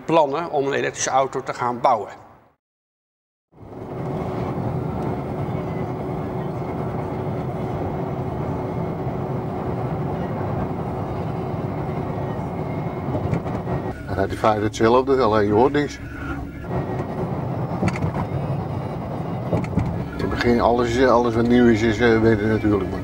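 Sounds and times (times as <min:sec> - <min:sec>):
tyre and road noise: 0:03.6 - 0:14.9, 0:15.5 - 0:23.0
faint steady whine: 0:03.6 - 0:23.0.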